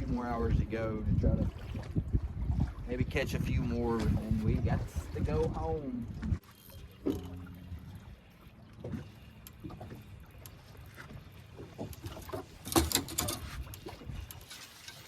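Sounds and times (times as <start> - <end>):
water slapping against boat hull: 1.2 - 15.0.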